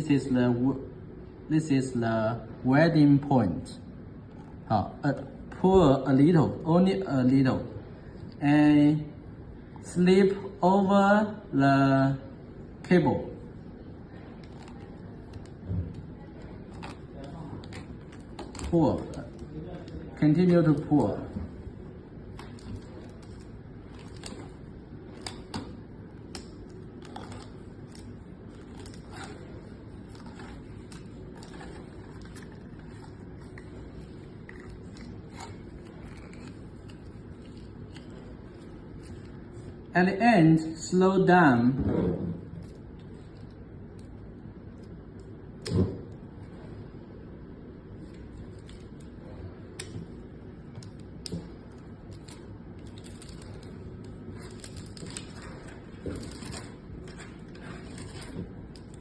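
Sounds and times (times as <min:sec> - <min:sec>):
low background hum: 0:00.0 - 0:59.0.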